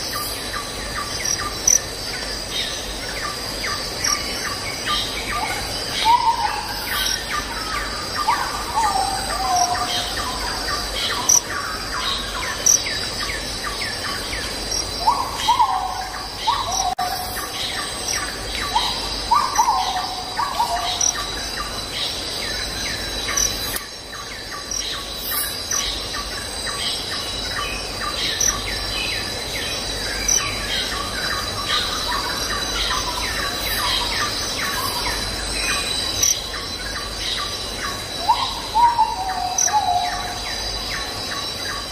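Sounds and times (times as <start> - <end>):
birds chirping and calling: 0.0 - 41.9
high insect trill: 0.0 - 41.9.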